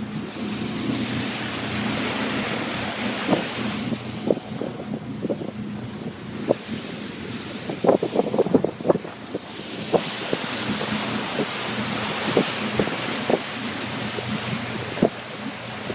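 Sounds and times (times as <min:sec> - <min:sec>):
motorboat engine hum: 0:00.0 - 0:15.9
rushing water: 0:00.0 - 0:15.9
wind buffeting microphone: 0:00.0 - 0:15.9.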